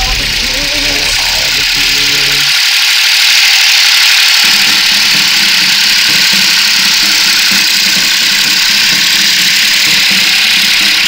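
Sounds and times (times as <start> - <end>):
loud steady hiss: 0.0 - 11.0
tractor diesel engine running: 0.0 - 11.0.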